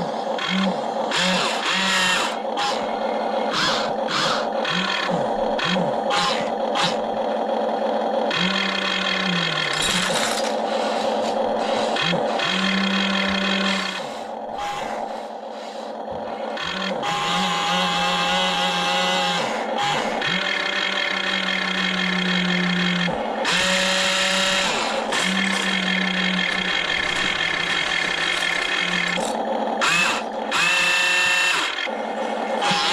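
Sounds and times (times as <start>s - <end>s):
toy excavator motors whining: 0.0s - 32.9s.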